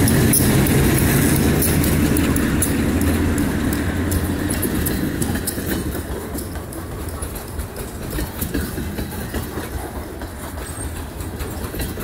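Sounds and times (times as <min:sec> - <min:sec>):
diesel locomotive rumble: 0:00.0 - 0:12.0
train wheels clanking on rails: 0:00.0 - 0:12.0.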